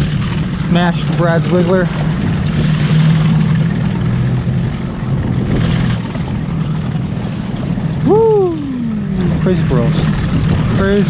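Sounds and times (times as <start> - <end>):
outboard motor running: 0.0 - 11.0
wind and water rushing: 0.0 - 11.0.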